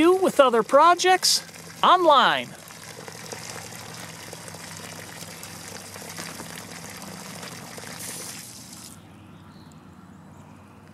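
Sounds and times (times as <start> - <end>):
water running through hose: 0.0 - 9.0.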